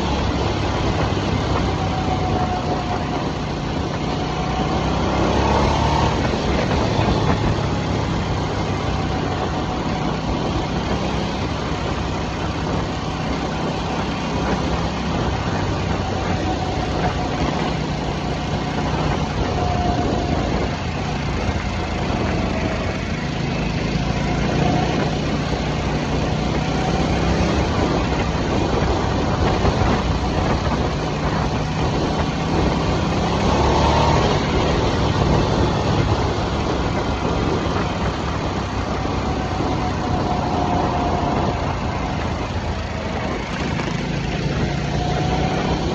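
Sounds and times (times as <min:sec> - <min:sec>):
motorcycle engine cruising: 0:00.0 - 0:45.9
rush of wind noise: 0:00.0 - 0:45.9.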